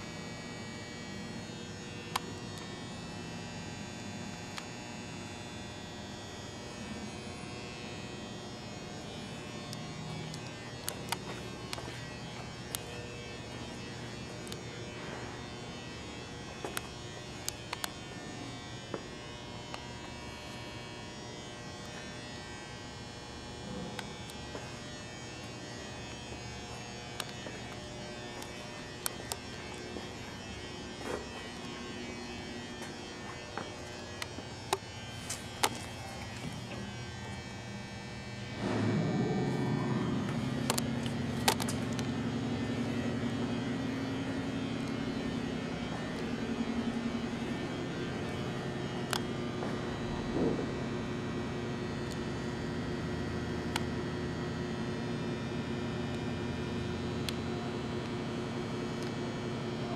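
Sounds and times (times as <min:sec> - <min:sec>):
electrical hum: 0:00.0 - 0:59.9
machine spinning up and droning: 0:00.0 - 0:59.9.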